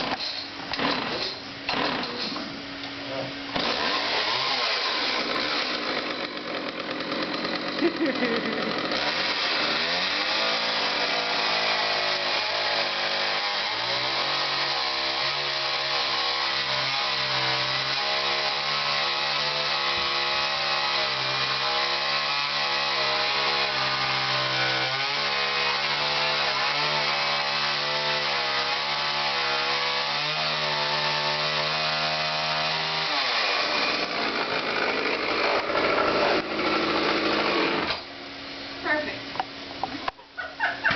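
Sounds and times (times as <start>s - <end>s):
chainsaw cutting wood: 0.0s - 2.4s, 3.5s - 38.1s.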